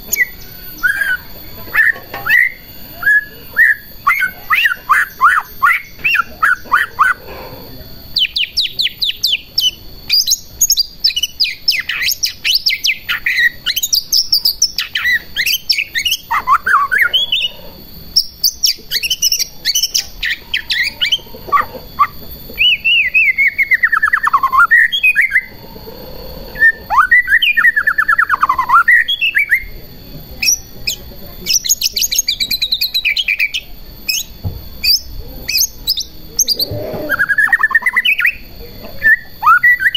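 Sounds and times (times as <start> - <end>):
songbird trills and whistles: 0.0 - 7.2, 8.1 - 25.6, 26.5 - 39.9.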